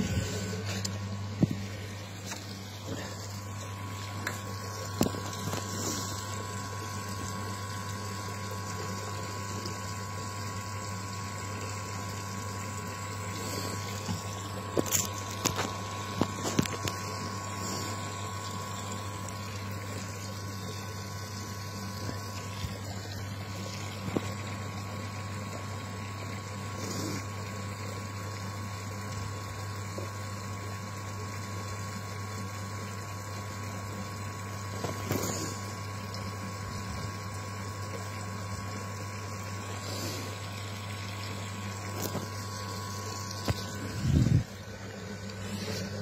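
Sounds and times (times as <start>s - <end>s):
pond pump humming: 0.0s - 46.0s.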